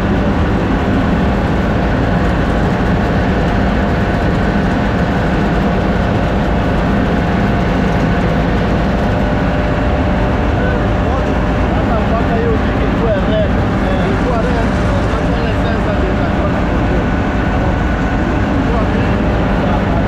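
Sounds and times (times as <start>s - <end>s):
grain dryer machinery drone: 0.0s - 20.0s.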